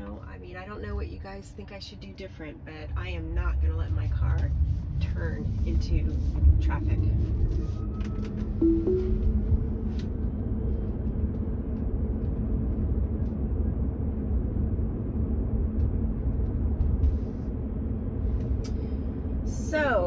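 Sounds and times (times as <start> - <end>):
road and tyre noise in car: 0.0 - 20.0.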